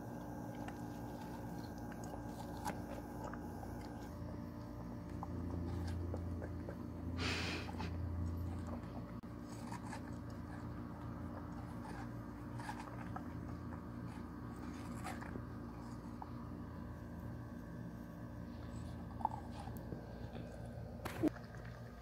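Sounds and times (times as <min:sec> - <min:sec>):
dog chewing watermelon rind: 0:00.0 - 0:22.0
steady low hum: 0:00.0 - 0:22.0.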